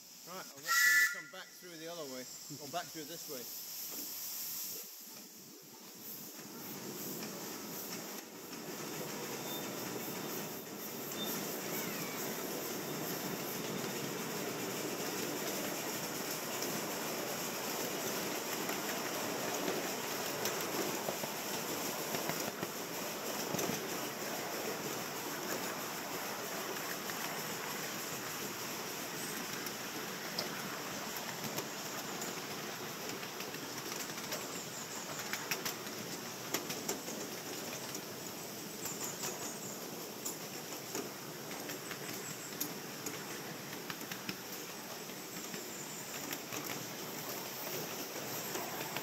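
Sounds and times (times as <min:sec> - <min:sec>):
miniature steam engine running: 0:04.8 - 0:49.0.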